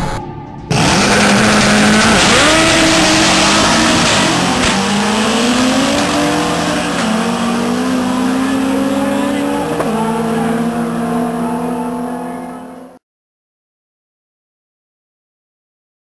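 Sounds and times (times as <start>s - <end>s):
drag racing cars accelerating: 0.0s - 13.0s.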